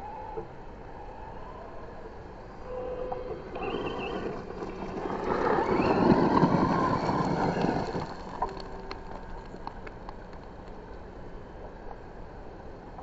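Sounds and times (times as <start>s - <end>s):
faint motor whine: 0.0s - 13.0s.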